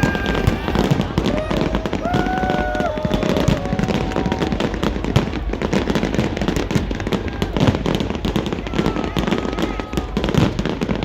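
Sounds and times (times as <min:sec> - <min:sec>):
fireworks bang: 0:00.0 - 0:11.0
fireworks crackling: 0:00.0 - 0:11.0.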